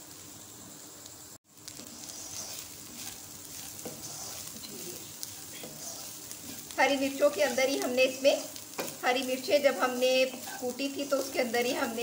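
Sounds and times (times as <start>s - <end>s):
meat sizzling in oil: 0.0s - 12.0s
spatula scraping a pan: 1.6s - 12.0s.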